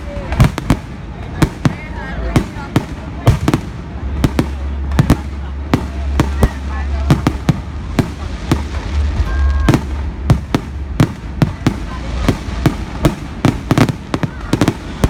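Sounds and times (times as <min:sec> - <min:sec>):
fireworks bangs: 0:00.0 - 0:15.0
low rumble: 0:00.0 - 0:15.0.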